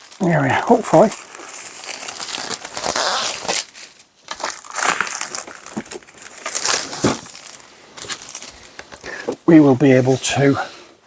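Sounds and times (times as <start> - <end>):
packaging crinkling: 0.0 - 9.3.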